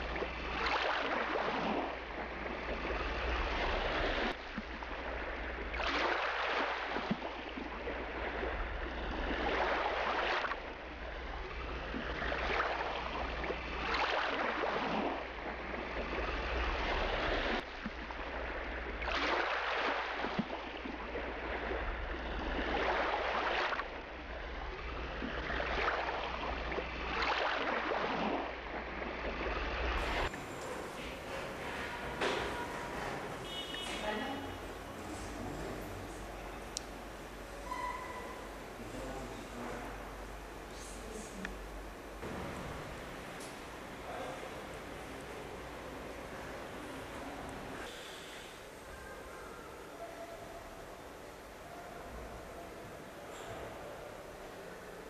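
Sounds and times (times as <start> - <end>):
sea waves washing: 0.0 - 49.0
steady low hum: 0.0 - 55.0.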